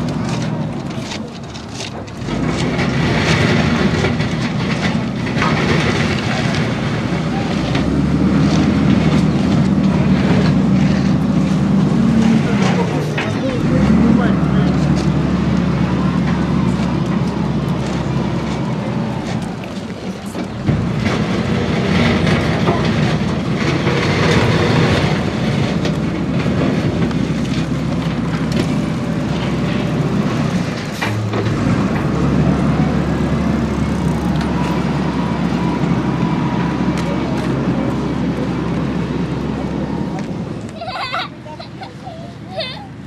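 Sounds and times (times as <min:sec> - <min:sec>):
diesel engine hum: 0:00.0 - 0:43.0.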